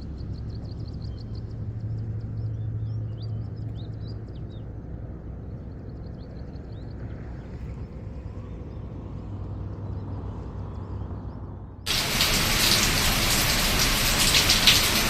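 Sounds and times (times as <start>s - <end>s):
birds chirping: 0.0s - 15.0s
low engine drone: 0.0s - 15.0s.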